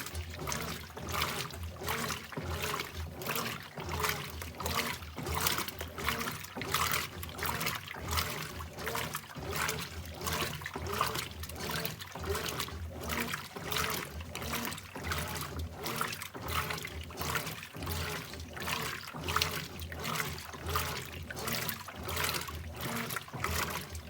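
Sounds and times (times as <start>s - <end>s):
washing machine water sloshing: 0.0s - 24.0s.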